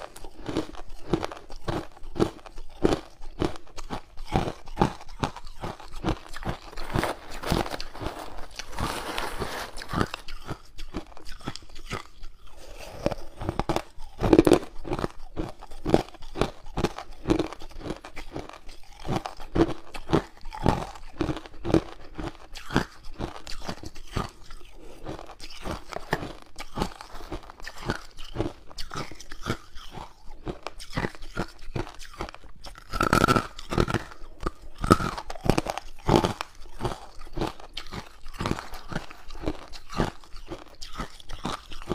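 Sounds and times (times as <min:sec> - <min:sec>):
ice cubes being chewed: 0:00.0 - 0:41.9.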